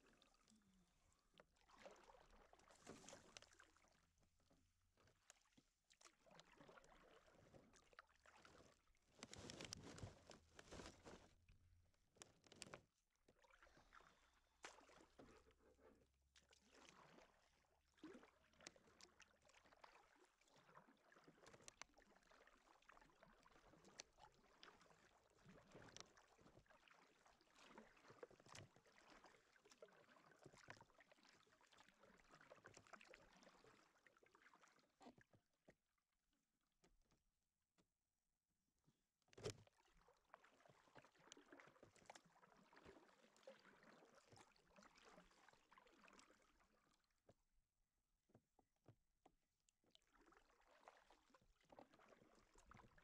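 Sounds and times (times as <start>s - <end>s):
paddle splashing in water: 0.0s - 4.2s, 5.0s - 11.3s, 13.4s - 35.3s, 39.4s - 46.8s, 50.0s - 53.0s.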